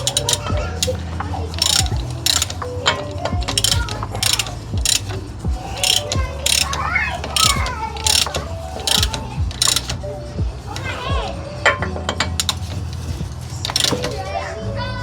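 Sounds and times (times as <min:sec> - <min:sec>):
socket ratchet rasping: 0:00.0 - 0:14.3.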